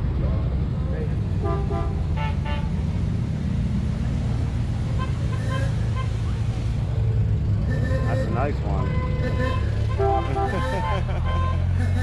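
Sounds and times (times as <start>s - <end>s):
car engines rumbling slowly past: 0.0s - 12.0s.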